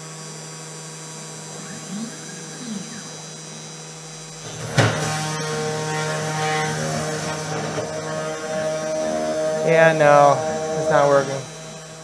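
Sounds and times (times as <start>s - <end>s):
spindle motor humming: 0.0s - 12.0s
stepper motors whining: 0.4s - 12.0s.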